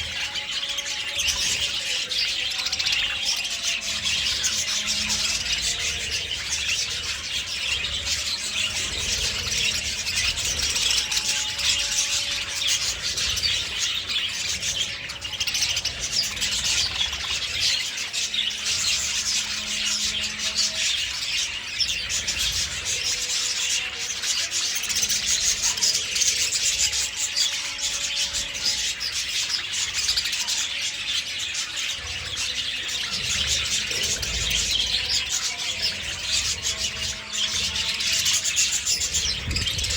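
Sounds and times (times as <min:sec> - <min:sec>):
flock of budgerigars chirping: 0:00.0 - 0:39.9.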